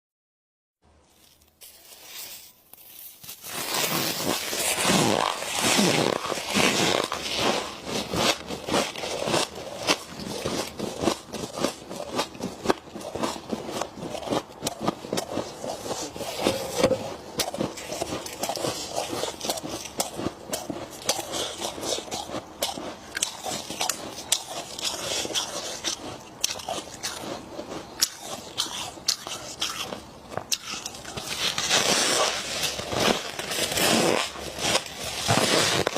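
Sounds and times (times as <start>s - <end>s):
chewing crunchy frost: 1.1s - 35.9s.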